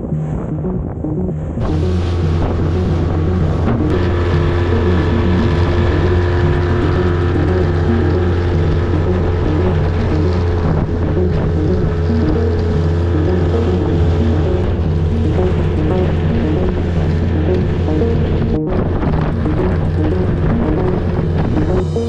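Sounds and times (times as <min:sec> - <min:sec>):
wind on microphone: 0:00.0 - 0:22.0
outboard motor running: 0:01.6 - 0:22.0.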